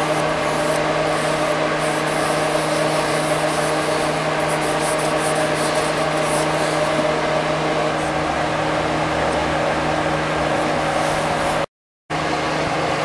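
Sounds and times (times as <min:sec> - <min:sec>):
machine droning hum: 0:00.0 - 0:13.0.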